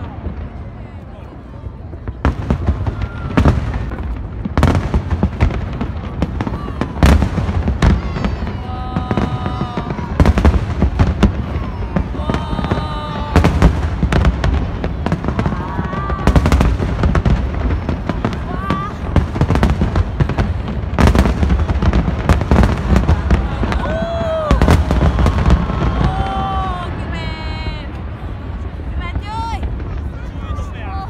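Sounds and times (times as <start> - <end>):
spectators' voices: 0.0 - 31.0.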